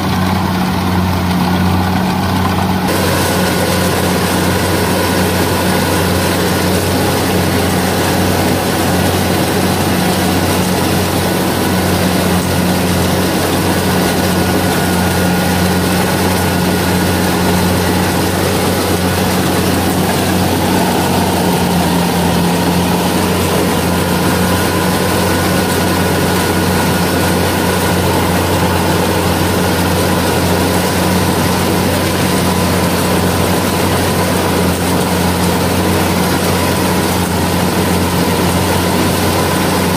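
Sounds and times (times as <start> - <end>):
combine harvester engine and machinery: 0.0 - 39.9.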